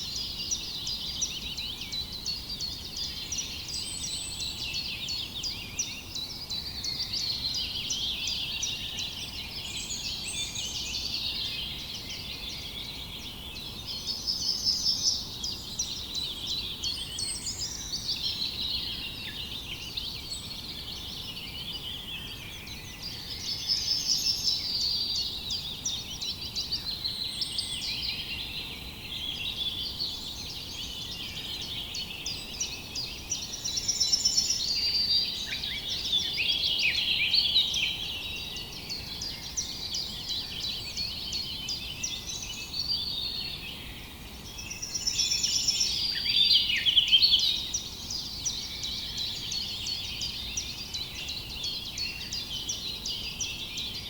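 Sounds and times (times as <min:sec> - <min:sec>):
faint background hiss: 0:00.0 - 0:54.0
songbirds chirping and trilling: 0:00.0 - 0:54.0.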